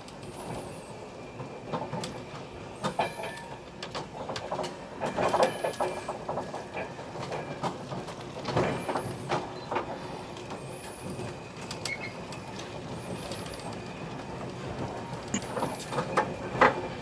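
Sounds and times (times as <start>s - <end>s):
train rumbling with wheel clicks: 0.0s - 17.0s.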